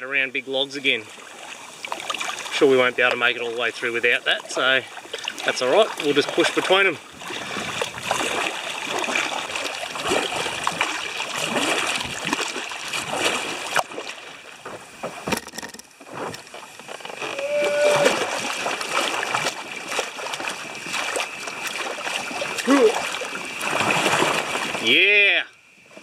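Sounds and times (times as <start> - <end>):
paddle strokes splashing in water: 0.8 - 25.2.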